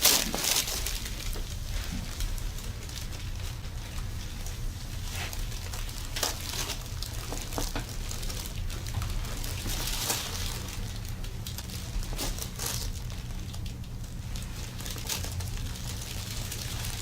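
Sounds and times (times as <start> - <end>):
soft crackling and rustling: 0.0 - 17.0.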